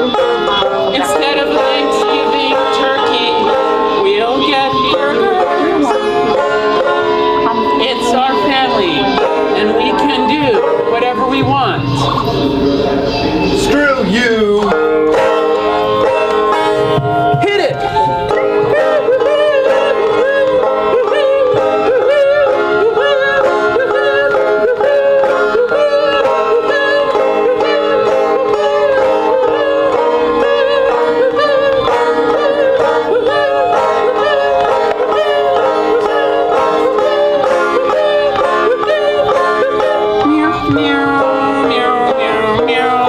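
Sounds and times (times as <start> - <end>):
fast plucked string notes: 0.0 - 43.0
live band instrumental: 0.0 - 43.0.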